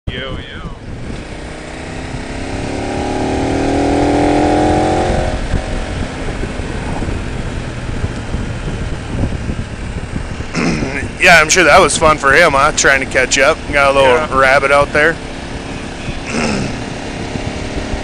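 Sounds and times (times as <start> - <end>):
wind and road rush: 0.0 - 18.0
motorcycle engine accelerating: 0.8 - 18.0.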